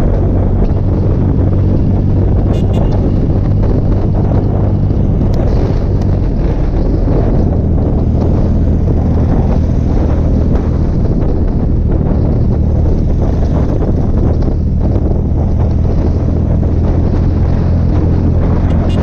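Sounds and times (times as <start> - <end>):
motorcycle engine cruising: 0.0 - 19.0
wind noise on microphone: 0.0 - 19.0.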